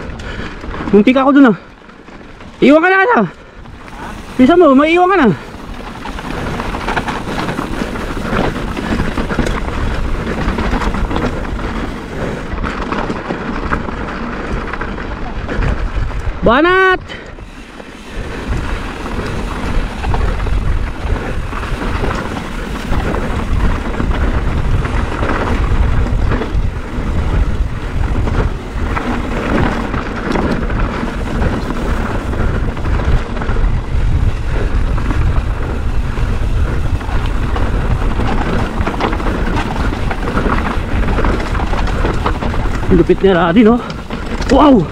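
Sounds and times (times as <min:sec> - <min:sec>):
bike tyres crunching over gravel: 0:00.0 - 0:44.9
wind rumbling on microphone: 0:00.0 - 0:44.9.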